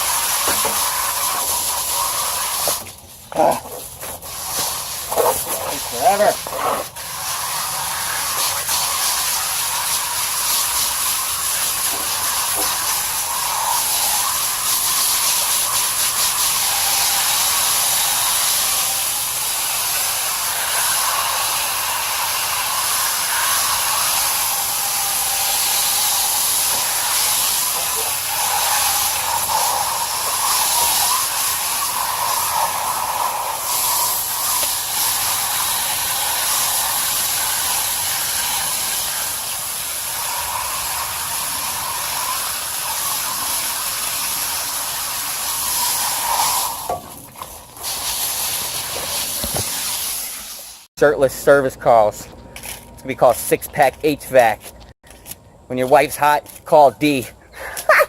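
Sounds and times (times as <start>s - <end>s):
garden hose spraying water: 0.0s - 58.0s.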